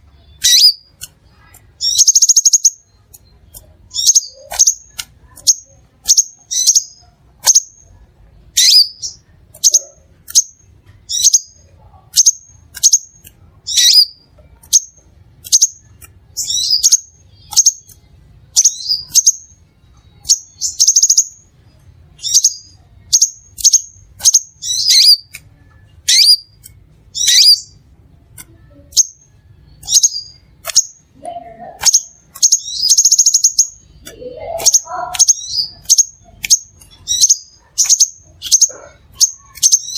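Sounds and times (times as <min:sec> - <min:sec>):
bird chips and trills: 0:00.2 - 0:07.9, 0:08.5 - 0:19.6, 0:20.2 - 0:21.5, 0:22.2 - 0:27.8, 0:28.5 - 0:39.9.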